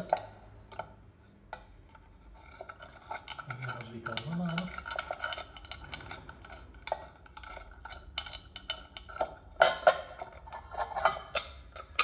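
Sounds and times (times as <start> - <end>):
metal hubcap clinking and scraping: 1.9 - 12.0.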